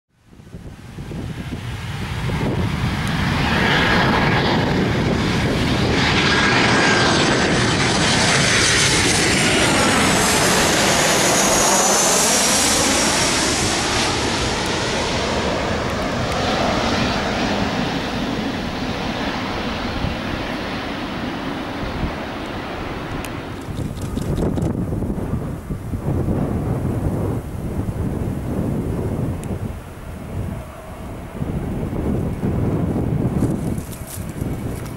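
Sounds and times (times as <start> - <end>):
jet engine roar overhead: 0.1 - 34.9
wind buffeting microphone: 0.2 - 34.9.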